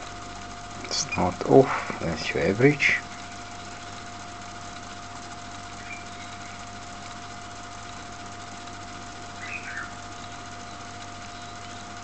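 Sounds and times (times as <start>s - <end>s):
electrical hum with high whine: 0.0s - 12.0s.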